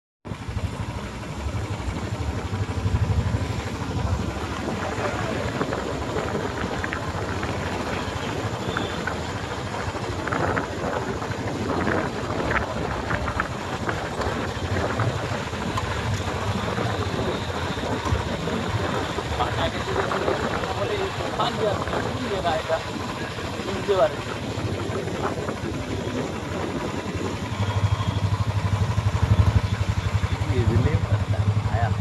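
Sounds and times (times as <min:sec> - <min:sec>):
vehicle engine and road rumble: 0:00.2 - 0:32.0
wind rushing over microphone: 0:00.3 - 0:32.0.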